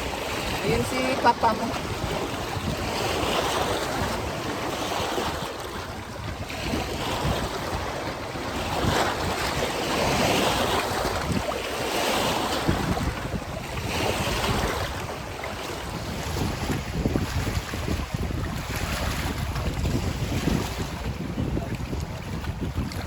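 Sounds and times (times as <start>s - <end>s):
wind gusting on microphone: 0.0s - 23.0s.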